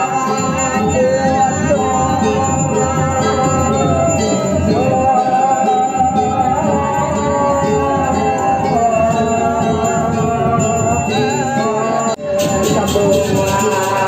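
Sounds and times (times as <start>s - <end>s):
sustained wavering melody: 0.0s - 14.0s.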